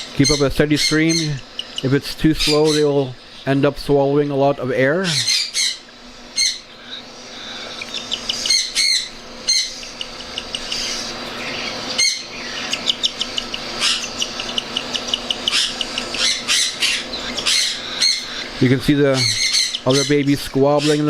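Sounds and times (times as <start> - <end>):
chicks chirping: 0.0 - 21.0
chicks screeching: 0.0 - 21.0.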